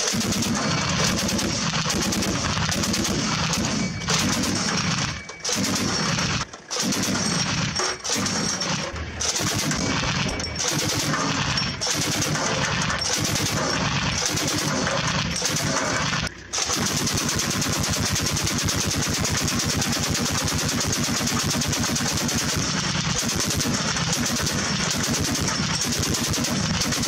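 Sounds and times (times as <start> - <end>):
autocannon firing bursts: 0.0 - 27.0.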